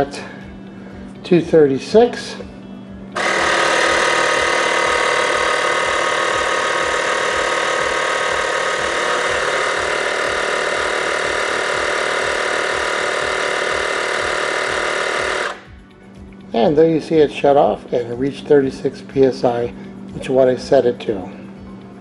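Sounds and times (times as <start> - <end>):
air compressor buzzing: 0.0 - 22.0.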